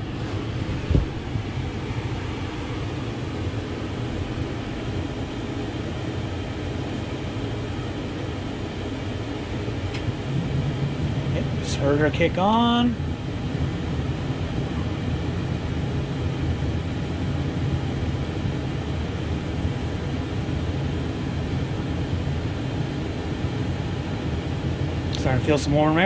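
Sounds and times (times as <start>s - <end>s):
furnace blower fan humming: 0.0s - 26.0s.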